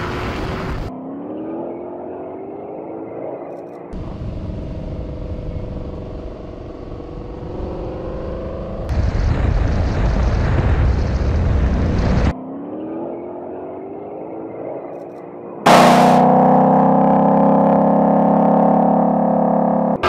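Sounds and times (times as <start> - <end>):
car engine accelerating: 0.0 - 9.4, 11.4 - 20.0.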